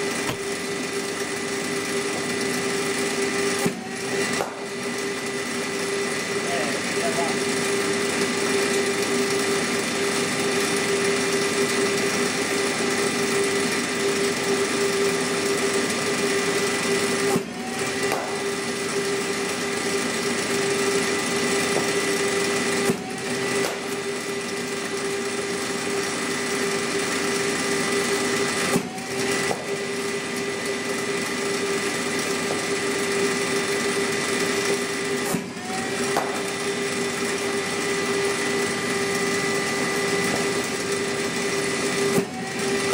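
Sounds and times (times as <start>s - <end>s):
bowling machine motor hum: 0.0s - 42.9s.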